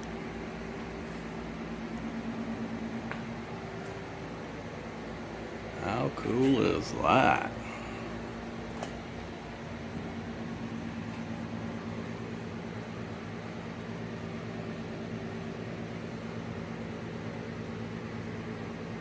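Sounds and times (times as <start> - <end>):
fan motor humming: 0.0 - 19.0.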